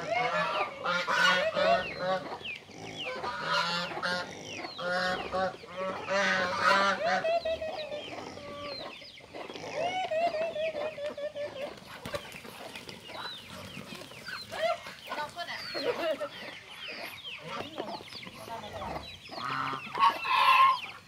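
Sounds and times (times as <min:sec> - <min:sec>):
poultry clucking and honking: 0:00.0 - 0:21.0.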